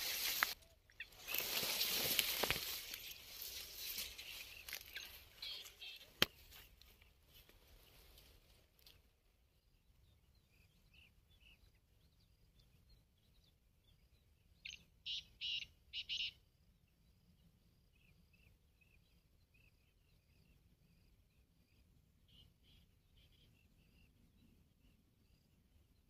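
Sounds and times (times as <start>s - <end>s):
small birds chirping: 0.0s - 16.5s, 17.9s - 25.5s.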